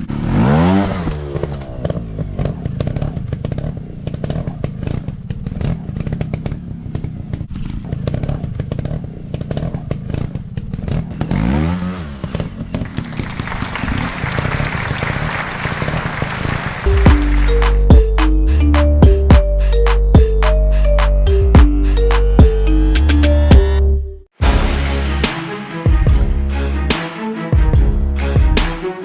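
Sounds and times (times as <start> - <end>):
motorcycle engine revving: 0.0 - 23.5.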